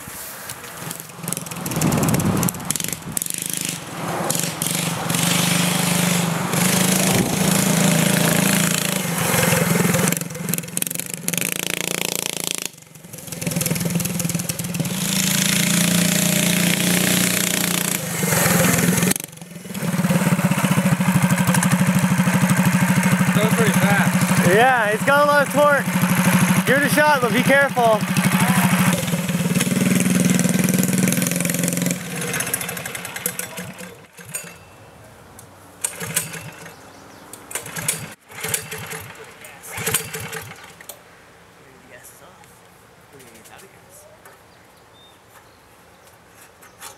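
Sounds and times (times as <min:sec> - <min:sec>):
lawn mower engine running hard: 0:00.9 - 0:34.6, 0:35.8 - 0:36.8, 0:37.5 - 0:40.8.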